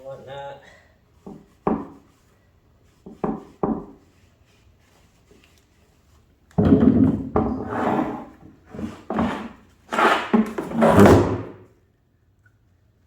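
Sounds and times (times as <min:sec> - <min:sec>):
rubbing and knocking handling noises: 0:01.1 - 0:11.6.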